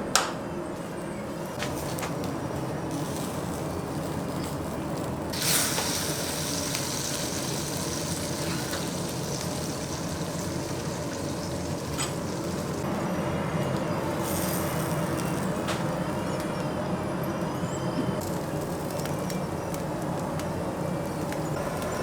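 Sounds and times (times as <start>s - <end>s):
low machine hum: 0.0s - 22.0s
food sizzling: 1.6s - 22.0s.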